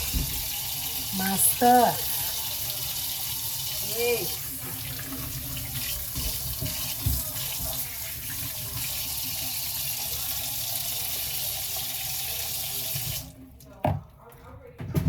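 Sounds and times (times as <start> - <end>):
tap water running into sink: 0.0 - 13.4.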